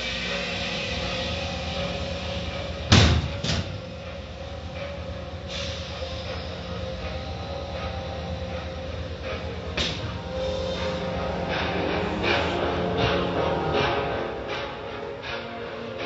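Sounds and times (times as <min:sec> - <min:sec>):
car wash machinery humming: 0:00.0 - 0:16.0.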